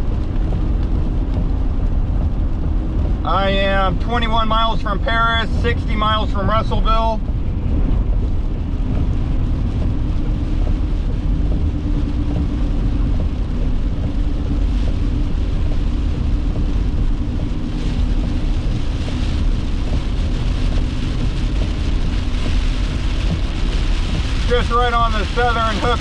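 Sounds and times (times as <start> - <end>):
road and engine noise in cabin: 0.0 - 26.0.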